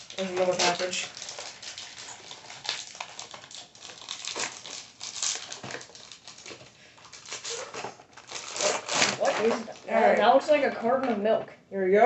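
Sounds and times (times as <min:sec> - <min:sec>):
plastic wrapper crinkling: 0:00.0 - 0:10.4.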